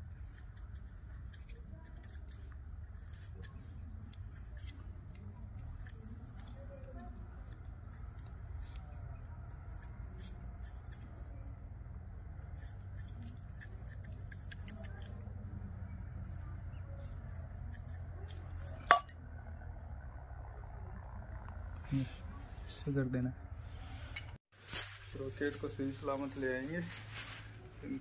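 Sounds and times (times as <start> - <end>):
low steady rumble: 0.0 - 24.4.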